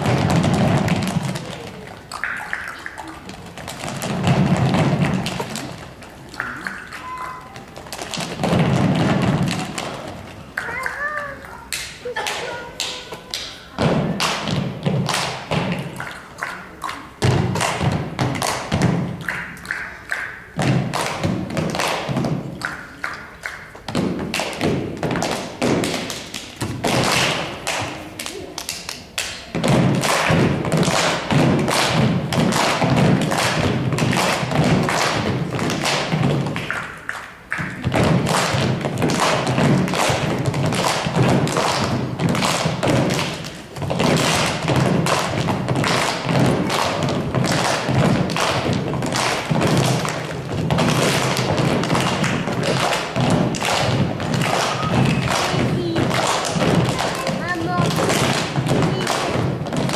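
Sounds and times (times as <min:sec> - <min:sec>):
children stamping feet on wooden stage: 0:00.0 - 0:59.9
clapping and tapping: 0:00.0 - 0:59.9.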